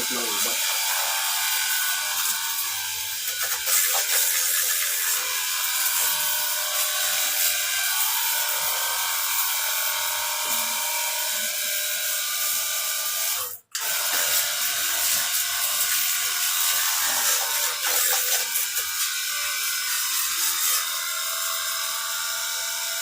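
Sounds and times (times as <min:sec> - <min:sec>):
pressure washer running: 0:00.0 - 0:11.7, 0:13.8 - 0:22.9.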